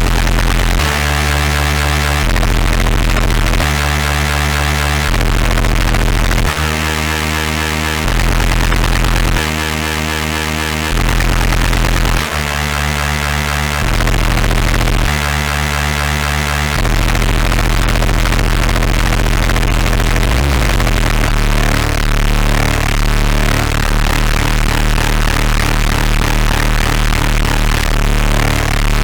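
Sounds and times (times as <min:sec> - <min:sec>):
distorted synth string chords: 0:00.0 - 0:29.0
heavy distorted bass: 0:00.0 - 0:29.0.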